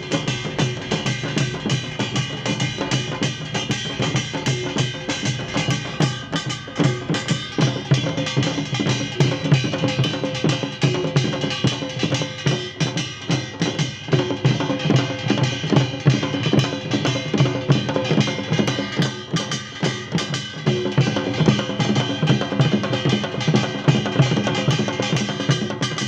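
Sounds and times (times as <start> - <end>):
fast drumming: 0.0 - 26.0.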